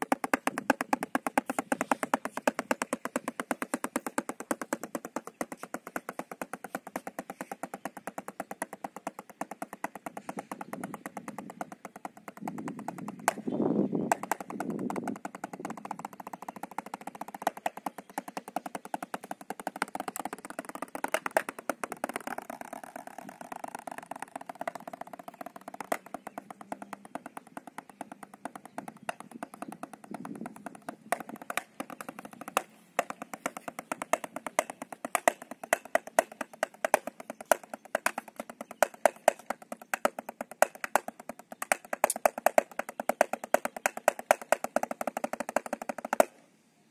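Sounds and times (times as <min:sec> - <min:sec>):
drumsticks on practice pad: 0:00.0 - 0:46.4.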